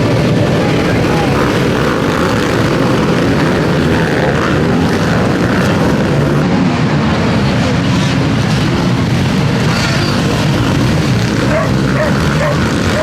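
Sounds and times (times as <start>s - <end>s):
motocross motorcycle engines racing: 0.0s - 13.0s.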